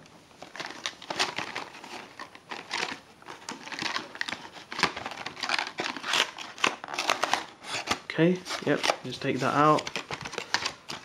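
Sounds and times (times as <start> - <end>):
cardboard and plastic packaging crinkling: 0.3 - 11.0.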